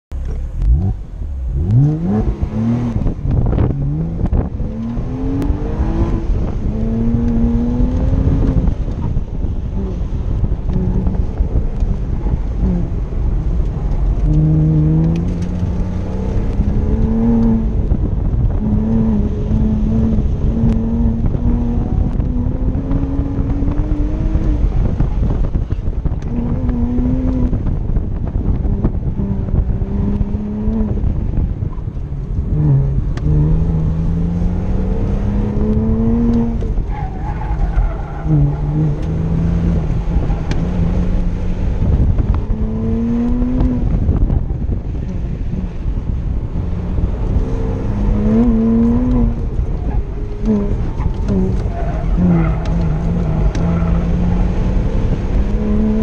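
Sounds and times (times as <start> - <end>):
car engine accelerating: 0.1 - 56.0
wind rumbling on microphone: 0.1 - 56.0.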